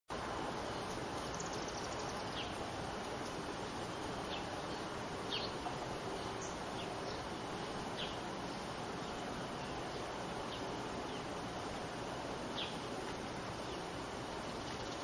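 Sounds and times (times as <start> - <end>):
outdoor background hiss: 0.1 - 15.0
small birds chirping: 0.3 - 15.0.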